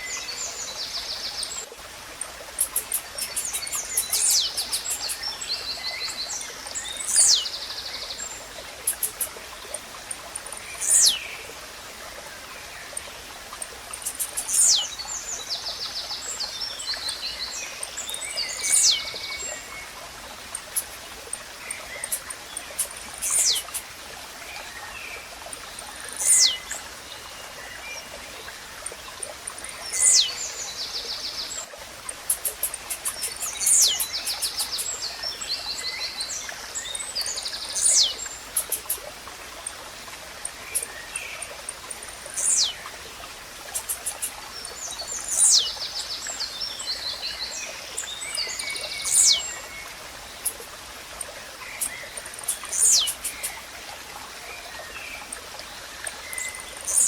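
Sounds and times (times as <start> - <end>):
steady water-like hiss: 0.0 - 57.0
small birds chirping and trilling: 2.5 - 11.5, 12.6 - 39.0, 40.4 - 53.7, 54.6 - 57.0.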